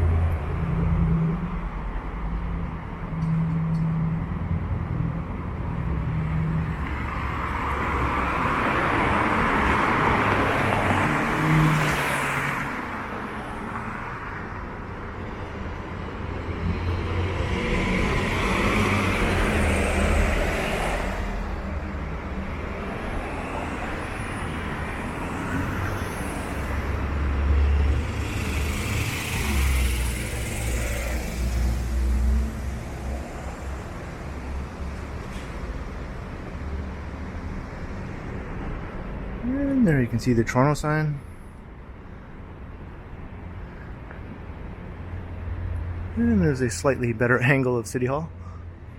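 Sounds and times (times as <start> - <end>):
low rumble of engines: 0.0 - 11.9, 12.6 - 48.9
cars passing: 0.0 - 48.9.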